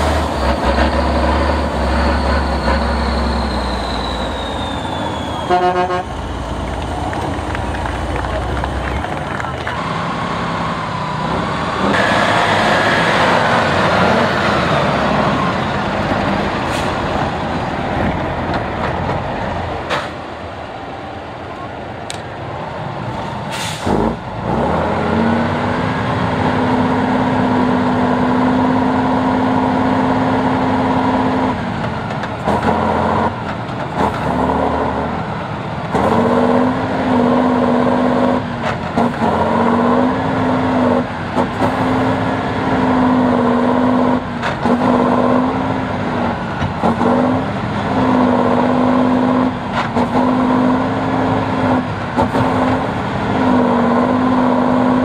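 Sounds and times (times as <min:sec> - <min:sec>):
diesel truck engine revving: 0:00.0 - 0:19.9, 0:23.0 - 0:55.0.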